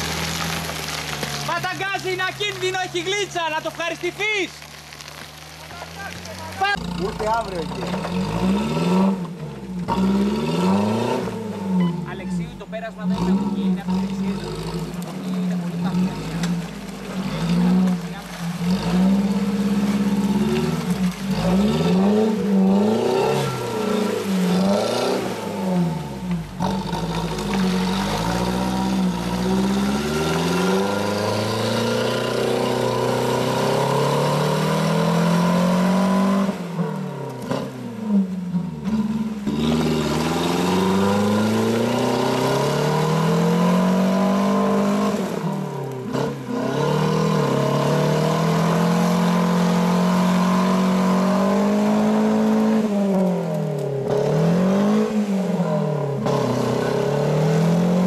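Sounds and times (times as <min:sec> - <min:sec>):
tyres spinning in mud: 0:00.0 - 0:11.4, 0:12.0 - 0:37.7, 0:38.4 - 0:55.1
engine revving hard: 0:06.7 - 0:12.1, 0:13.0 - 0:36.8, 0:38.9 - 0:58.0.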